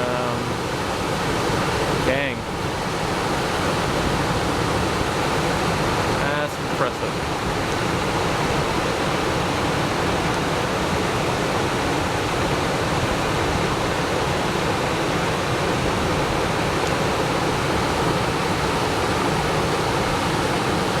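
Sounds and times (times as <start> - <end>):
heavy rain downpour: 0.0 - 21.0
rushing floodwater: 0.0 - 21.0.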